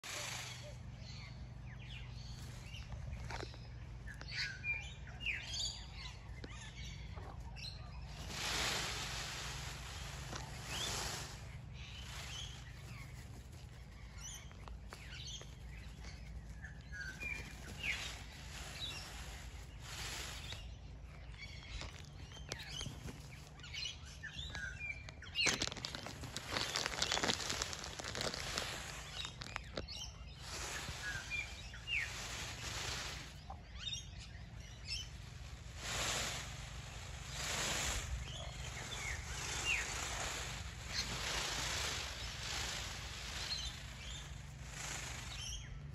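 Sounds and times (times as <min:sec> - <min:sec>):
small birds chirping: 0:00.0 - 0:45.9
peacock quills rattling: 0:08.0 - 0:45.9.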